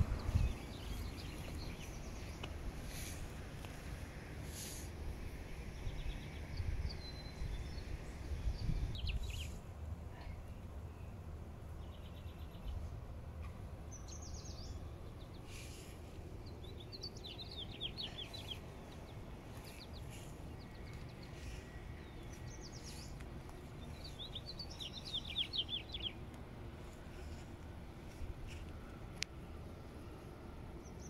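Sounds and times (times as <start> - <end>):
low background rumble: 0.0 - 31.0
small birds chirping: 0.0 - 31.0.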